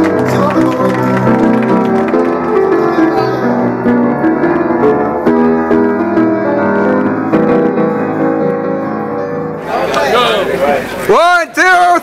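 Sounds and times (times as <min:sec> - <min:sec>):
grand piano playing: 0:00.0 - 0:11.1.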